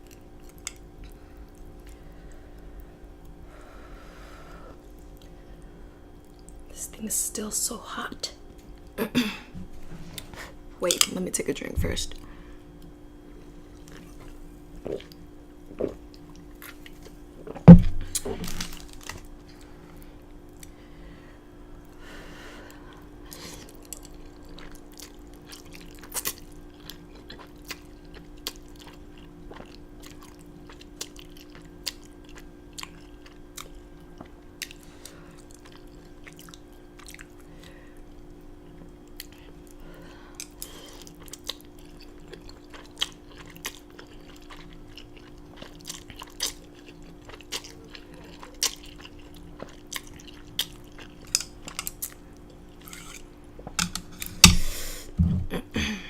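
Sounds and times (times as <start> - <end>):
person chewing food: 0.0 - 3.5, 4.7 - 6.7, 12.1 - 21.0, 22.7 - 55.0
steady hum: 0.0 - 56.0.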